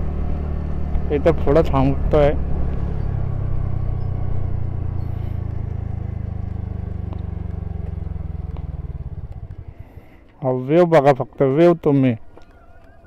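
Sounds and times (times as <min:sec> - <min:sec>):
scooter engine slowing down: 0:00.0 - 0:10.3, 0:12.3 - 0:13.0.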